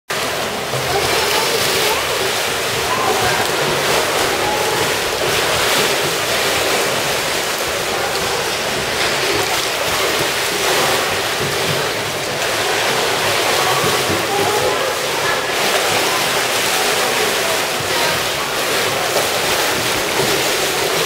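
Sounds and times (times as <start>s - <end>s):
water churning and splashing: 0.1s - 21.0s.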